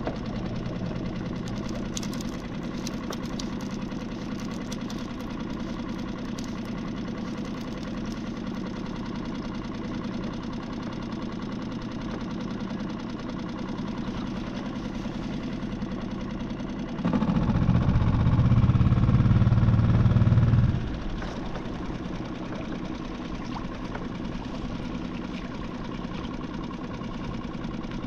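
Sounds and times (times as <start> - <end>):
outboard motor idling and revving: 0.0 - 28.0.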